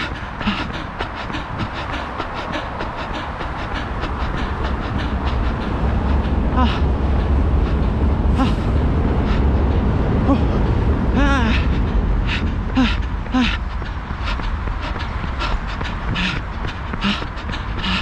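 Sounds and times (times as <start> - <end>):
running footsteps: 0.0 - 9.4, 11.4 - 18.0
loud low rumble: 0.0 - 18.0.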